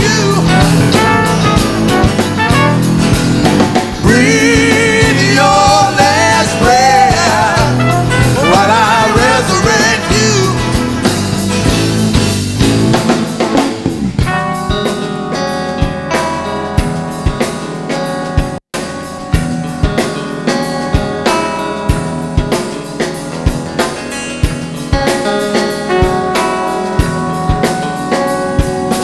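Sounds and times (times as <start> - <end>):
drum kit beat: 0.0 - 29.0
guitar chords: 0.0 - 29.0.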